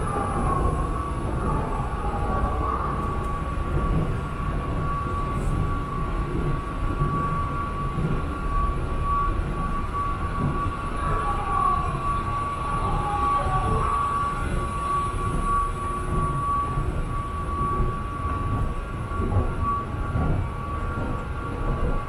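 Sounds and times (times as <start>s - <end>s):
escalator rumbling: 0.0s - 22.0s
high whine: 0.0s - 22.0s.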